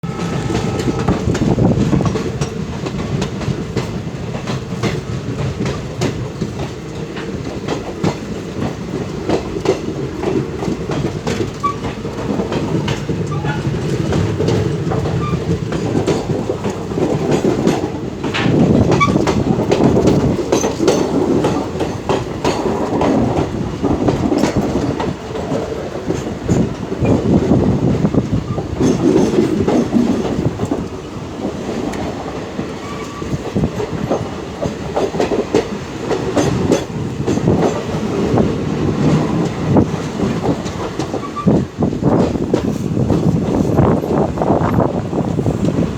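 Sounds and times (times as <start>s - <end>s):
train rumbling and rattling: 0.0s - 45.9s
wheels clacking over rail joints: 0.0s - 45.9s.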